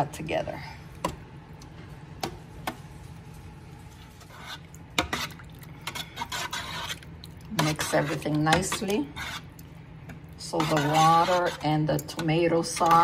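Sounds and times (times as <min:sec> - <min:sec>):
spoon stirring soupy mixture: 0:00.9 - 0:13.0.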